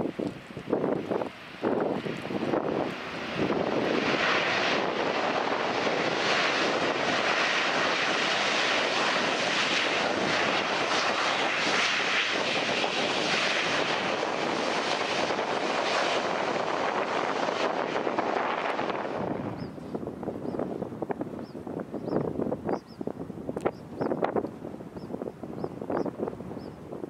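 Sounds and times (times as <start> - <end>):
jet engines reverse thrust: 0.1 - 23.0.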